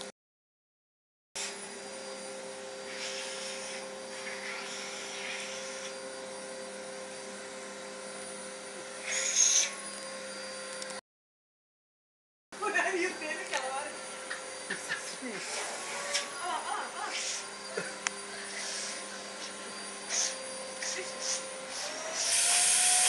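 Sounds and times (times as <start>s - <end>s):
vacuum cleaner running: 1.4s - 11.0s, 12.6s - 23.0s.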